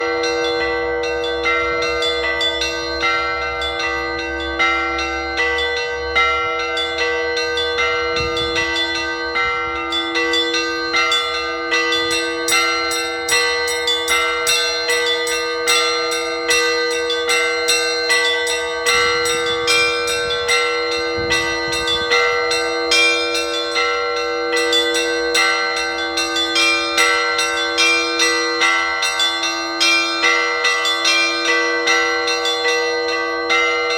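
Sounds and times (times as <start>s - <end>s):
low church bell struck: 0.0s - 33.9s
smaller bells ringing pattern: 0.0s - 33.9s.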